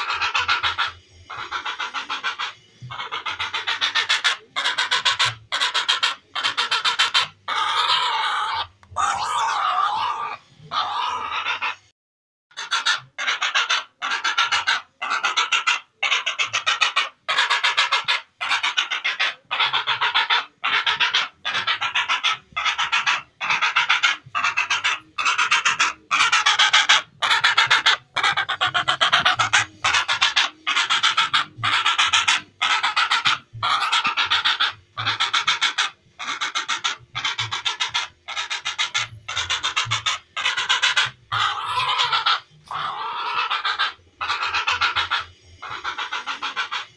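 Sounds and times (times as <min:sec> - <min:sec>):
heron harsh rasping calls: 0:00.0 - 0:11.9, 0:12.5 - 0:46.9.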